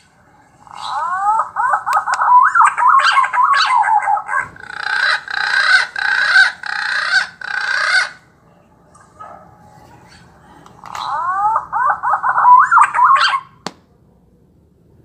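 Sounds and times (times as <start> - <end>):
harsh drawn-out bird calls: 0.0 - 13.6.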